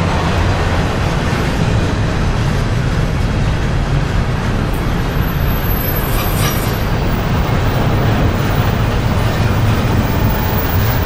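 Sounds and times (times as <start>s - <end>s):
steel wheels rumbling on rails: 0.0s - 11.0s.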